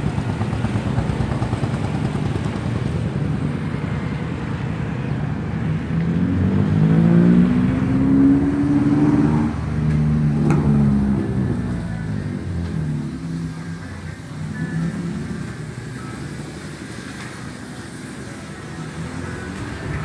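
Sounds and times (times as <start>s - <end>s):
diesel engine clattering and revving: 0.0s - 20.0s.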